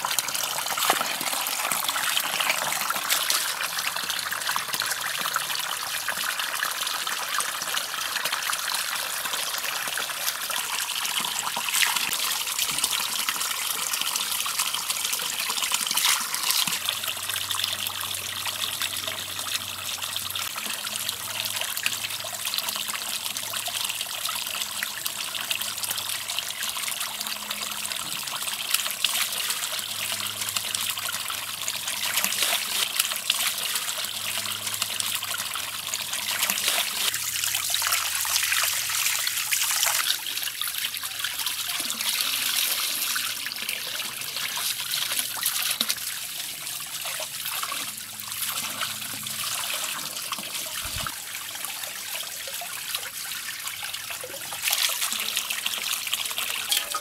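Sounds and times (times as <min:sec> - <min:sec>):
fish rinsed by hand: 0:00.0 - 0:57.0
hose water splashing into pot: 0:00.0 - 0:57.0.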